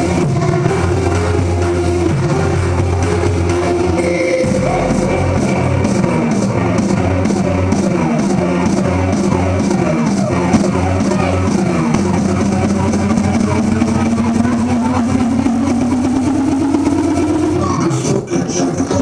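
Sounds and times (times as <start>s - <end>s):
loud music: 0.0s - 19.0s.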